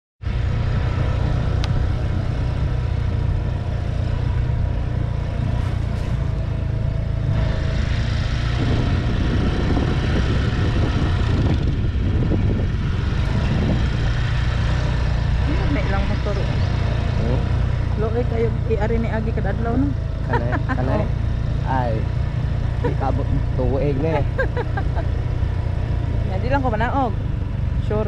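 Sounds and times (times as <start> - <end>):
motorcycle engine rumbling: 0.2 - 28.0.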